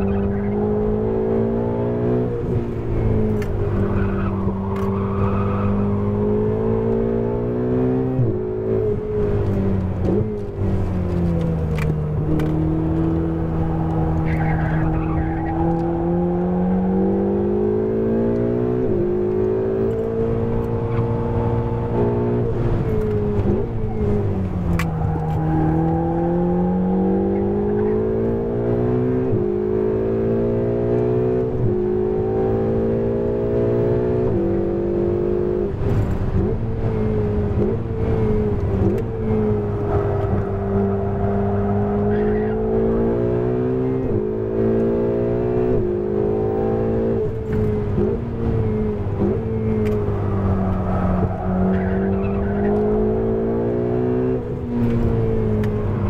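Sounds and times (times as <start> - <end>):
sports car engine revving with gearshifts: 0.0 - 56.0.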